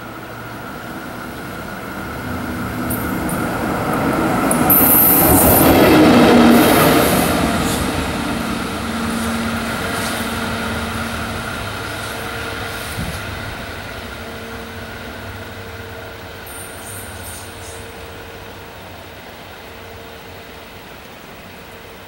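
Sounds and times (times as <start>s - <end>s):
electric locomotive passing: 0.0s - 22.0s.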